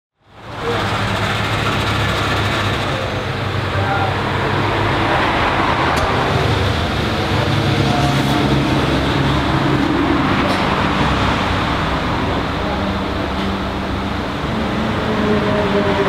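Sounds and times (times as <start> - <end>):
car engine idling: 0.3 - 15.1.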